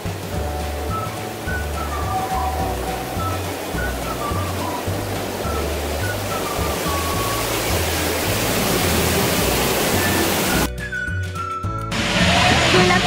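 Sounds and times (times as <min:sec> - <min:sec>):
falling water rushing: 0:00.0 - 0:10.7, 0:11.8 - 0:13.0
ambient music: 0:00.0 - 0:13.0.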